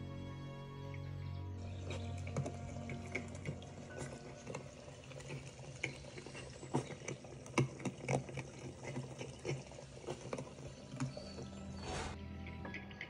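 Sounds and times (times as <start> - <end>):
stream trickling over stones: 1.6 - 13.0.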